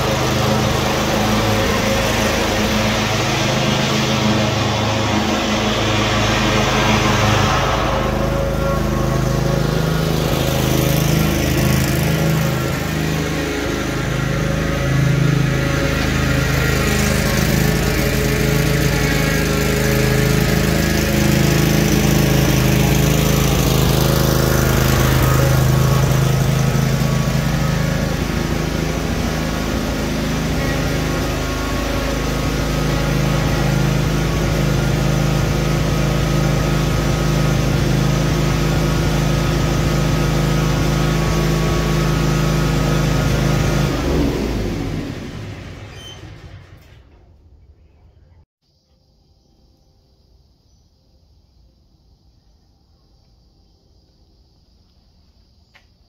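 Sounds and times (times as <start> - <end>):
mower engine running: 0.0 - 47.1.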